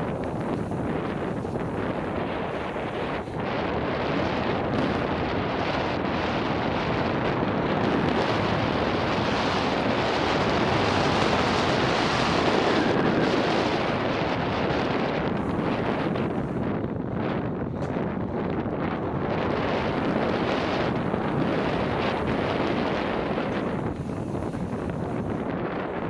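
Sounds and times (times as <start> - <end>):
wind roaring over microphone: 0.0 - 26.0.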